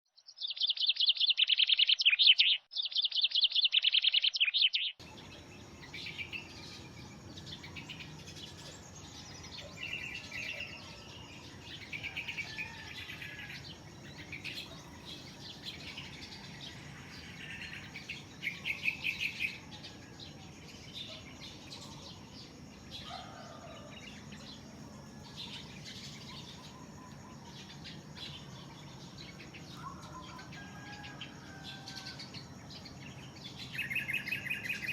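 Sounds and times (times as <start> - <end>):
birds chirping: 0.4 - 34.9.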